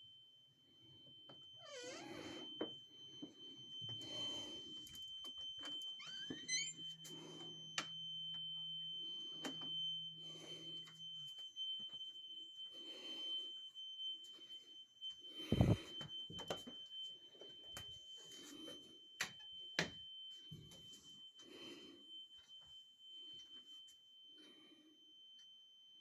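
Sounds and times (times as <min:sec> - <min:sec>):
alarm high-pitched tone: 0:00.8 - 0:25.4.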